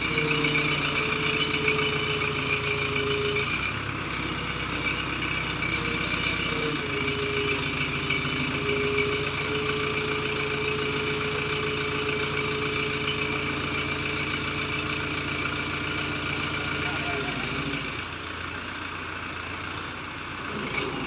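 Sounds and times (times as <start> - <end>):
crane diesel engine running: 0.0 - 21.0.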